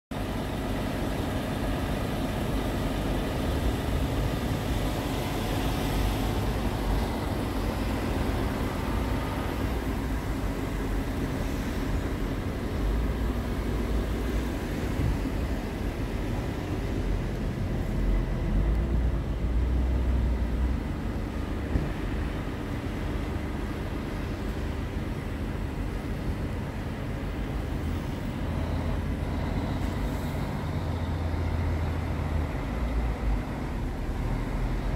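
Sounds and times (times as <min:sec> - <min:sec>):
truck diesel engine idling: 0:00.2 - 0:34.9.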